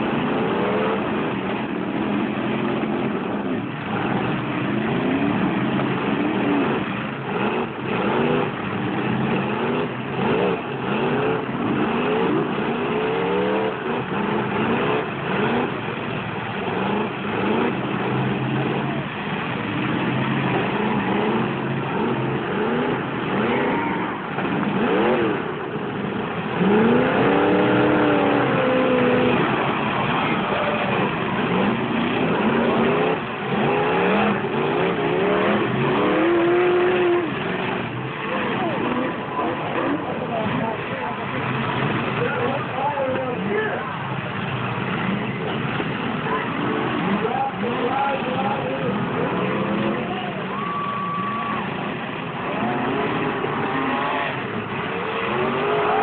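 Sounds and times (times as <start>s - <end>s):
steady din of noise: 0.0s - 56.0s
truck engines revving hard: 0.0s - 56.0s.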